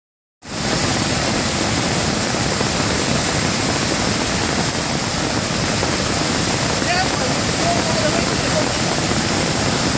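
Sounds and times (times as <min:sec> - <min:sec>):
waterfall torrent rushing: 0:00.4 - 0:09.9.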